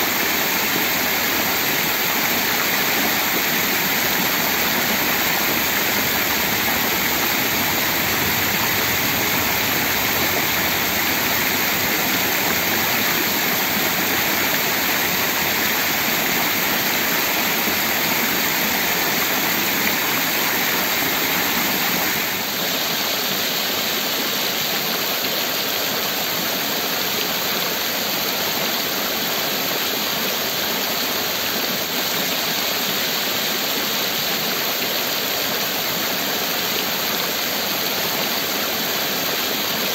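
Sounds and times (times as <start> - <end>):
fountain jets splashing on stone: 0.0 - 39.9.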